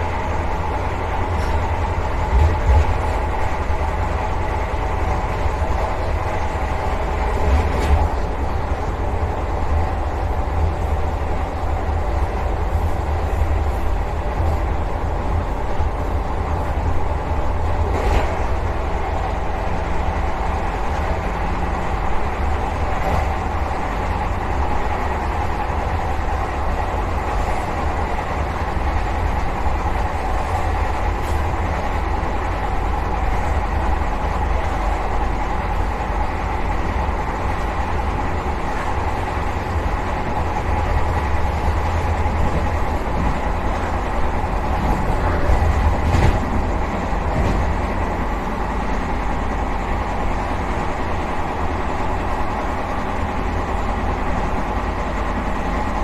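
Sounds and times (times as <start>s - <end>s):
low rumble of train wheels: 0.0s - 56.0s.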